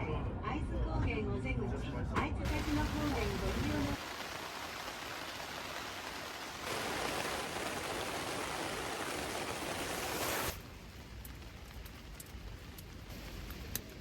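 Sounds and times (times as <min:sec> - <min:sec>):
steady rain falling: 0:02.5 - 0:14.0.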